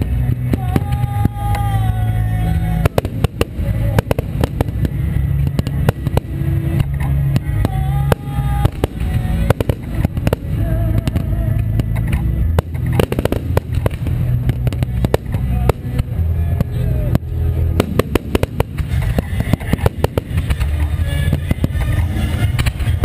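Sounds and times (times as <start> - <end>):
fireworks cracks and booms: 0.0 - 23.0
low rumble: 0.0 - 23.0.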